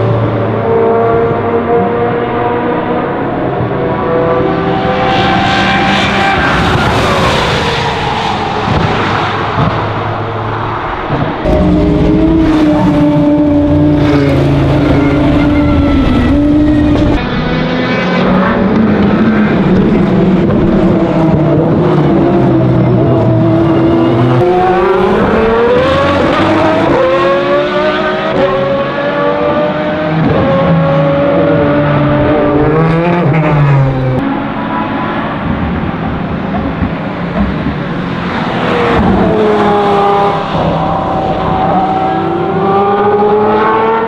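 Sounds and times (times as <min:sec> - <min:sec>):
race car engine at speed: 0:00.0 - 0:44.0.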